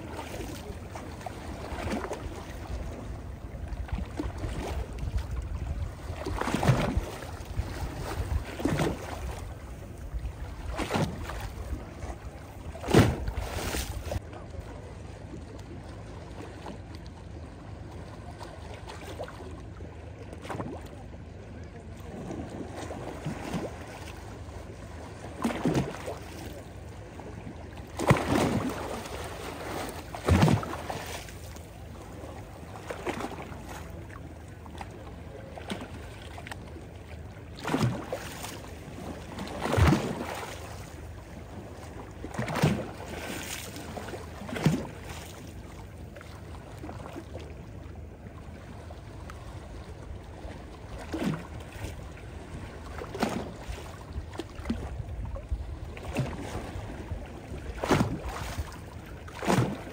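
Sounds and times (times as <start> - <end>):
small waves lapping on stony shore: 0.0 - 59.9.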